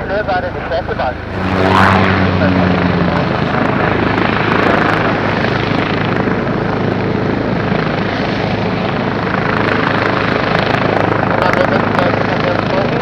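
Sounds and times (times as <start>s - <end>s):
helicopter rotor beat: 0.0s - 13.0s
helicopter turbines whining: 0.0s - 13.0s.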